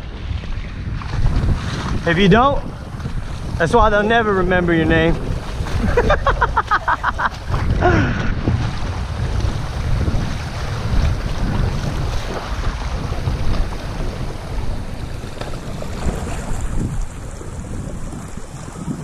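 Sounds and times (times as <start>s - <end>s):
river water splashing: 0.0s - 19.0s
wind buffeting microphone: 0.0s - 19.0s.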